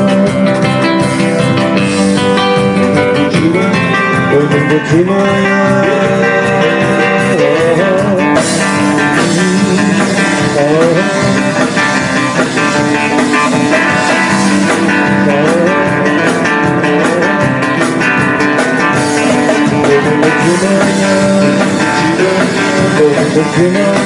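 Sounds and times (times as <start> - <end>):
guitar-led instrumental band music: 0.0 - 24.0.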